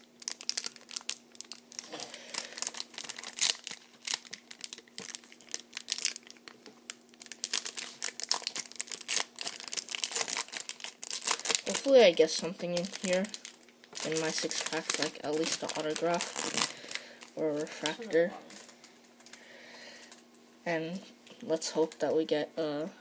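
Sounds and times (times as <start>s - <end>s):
foil wrapper crinkling and tearing: 0.0s - 19.4s.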